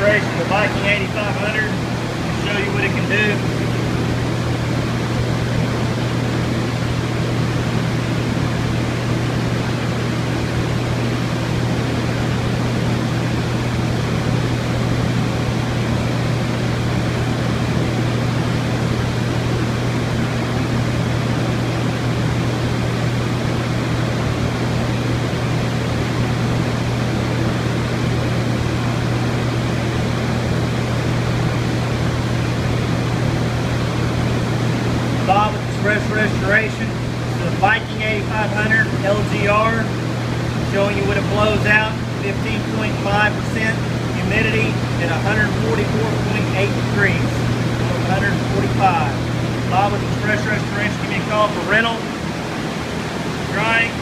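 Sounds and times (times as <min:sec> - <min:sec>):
dehumidifier air rush: 0:00.0 - 0:54.0
low hum: 0:00.0 - 0:54.0.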